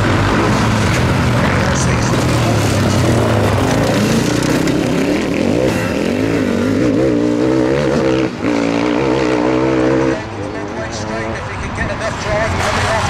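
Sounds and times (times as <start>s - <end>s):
motorcycle engines running hard: 0.0s - 13.0s.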